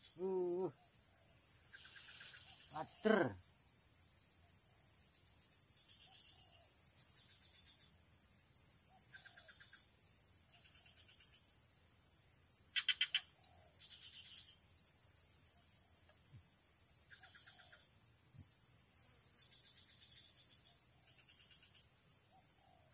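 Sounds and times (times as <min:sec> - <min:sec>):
high insect hum: 0:00.0 - 0:22.9.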